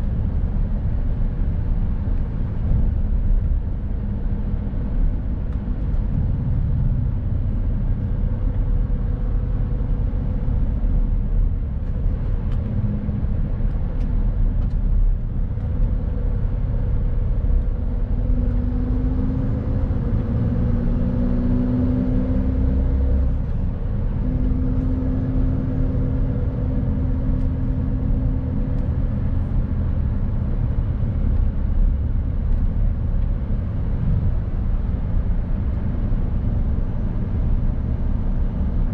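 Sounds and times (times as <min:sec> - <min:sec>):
road rumble: 0:00.0 - 0:38.9.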